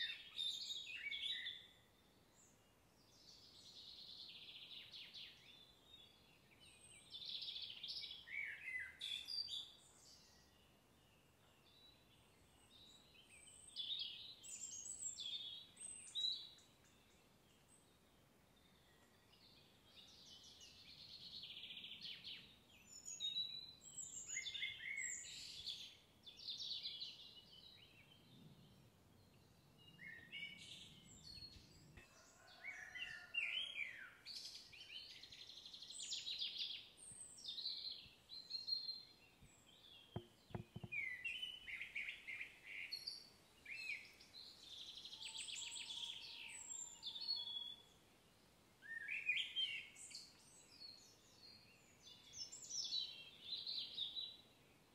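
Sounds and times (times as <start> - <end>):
songbirds singing and chirping: 0.0 - 54.9.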